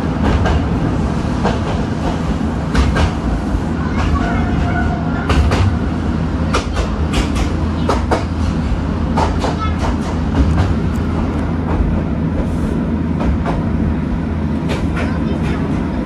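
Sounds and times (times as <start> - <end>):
train motors and wheels rumbling: 0.0 - 16.0.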